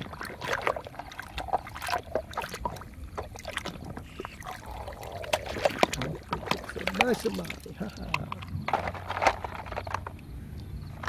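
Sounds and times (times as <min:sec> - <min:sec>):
muddy water splashing: 0:00.0 - 0:11.0.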